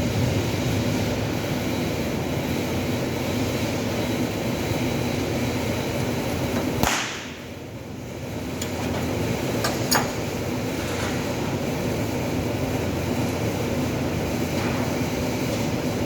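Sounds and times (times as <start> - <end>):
workshop machinery hum and crackle: 0.0 - 16.0.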